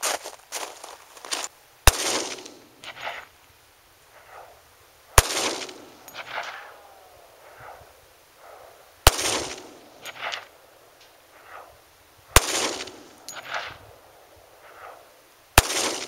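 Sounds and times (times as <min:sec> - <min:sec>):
pistol shots echoing: 0:01.8 - 0:03.3, 0:04.1 - 0:16.0.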